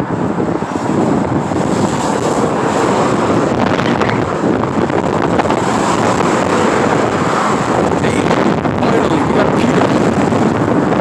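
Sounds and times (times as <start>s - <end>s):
heavy trucks passing: 0.0s - 11.0s
highway traffic: 0.0s - 11.0s
wind on microphone: 0.0s - 11.0s.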